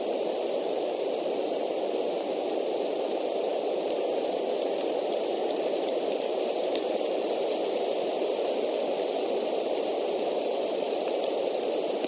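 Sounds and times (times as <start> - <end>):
steady rain hiss: 0.0 - 12.0
faint raindrop ticks: 0.8 - 12.0.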